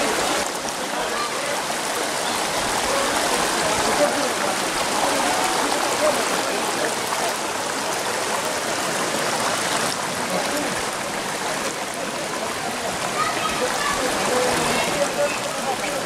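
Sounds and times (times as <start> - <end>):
faint indistinct voices: 0.0 - 16.0
water rushing: 0.0 - 16.0.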